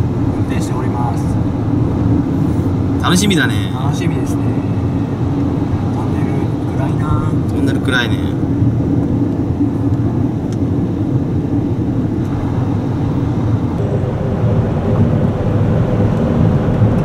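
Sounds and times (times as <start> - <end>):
car engine rumble: 0.0 - 17.0.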